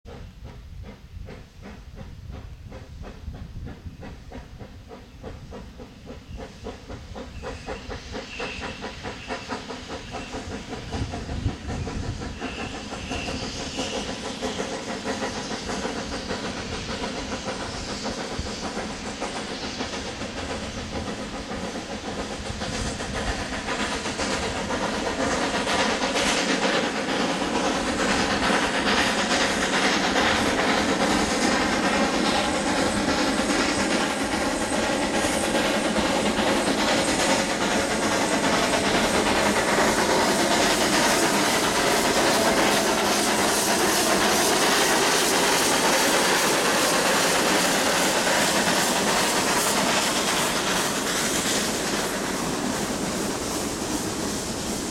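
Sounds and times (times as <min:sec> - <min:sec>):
steam hissing: 0:00.1 - 0:54.9
steam locomotive chuffing: 0:00.1 - 0:54.9.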